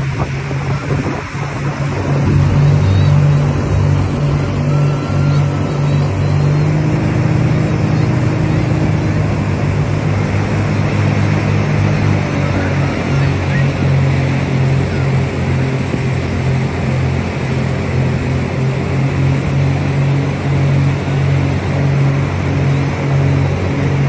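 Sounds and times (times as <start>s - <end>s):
motorboat engine droning: 0.0s - 24.0s
rushing wind: 0.0s - 24.0s
water noise: 0.0s - 24.0s.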